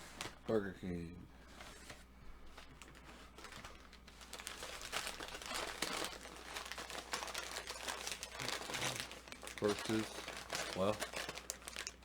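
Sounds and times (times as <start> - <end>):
paper wrapping crinkling: 1.5 - 12.0.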